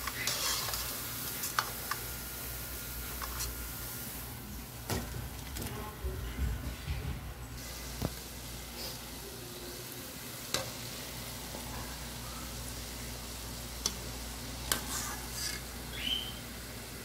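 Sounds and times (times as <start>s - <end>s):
fritters sizzling in hot oil: 0.0s - 4.9s, 7.6s - 17.0s.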